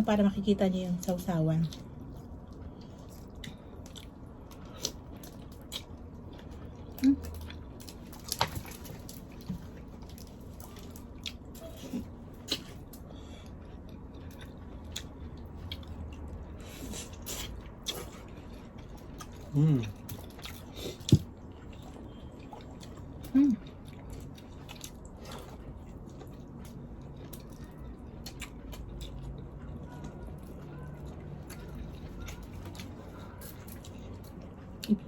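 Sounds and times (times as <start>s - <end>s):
wet chewing and biting: 1.6s - 35.0s.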